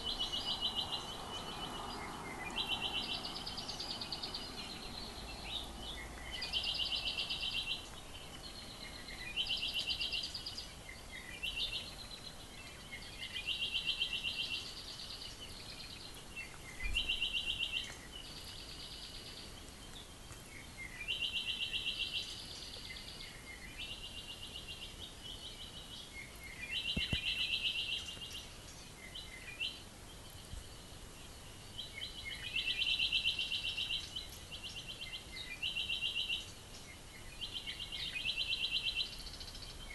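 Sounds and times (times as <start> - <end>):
songbirds trilling: 0.0 - 39.9.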